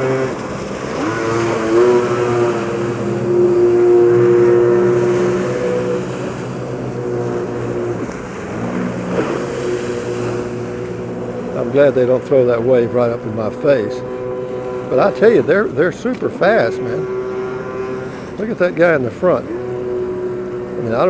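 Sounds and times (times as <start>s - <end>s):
jet ski engines whining: 0.0s - 21.0s.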